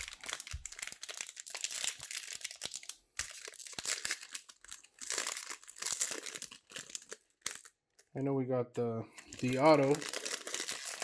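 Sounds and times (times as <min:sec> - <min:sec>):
foil wrapper crinkling: 0:00.0 - 0:08.1, 0:09.2 - 0:11.0.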